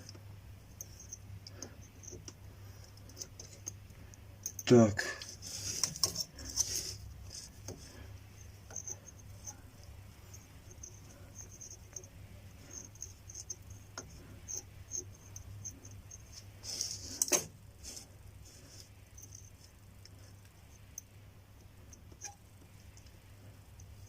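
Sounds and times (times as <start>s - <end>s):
faint ticks and scraping of tools: 0.0s - 24.0s.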